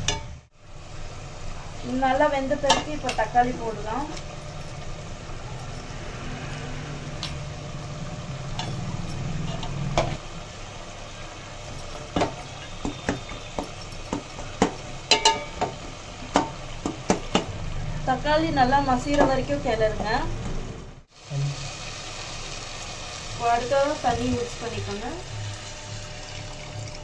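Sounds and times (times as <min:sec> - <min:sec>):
food sizzling in a pot: 0:00.0 - 0:17.8, 0:21.1 - 0:27.0.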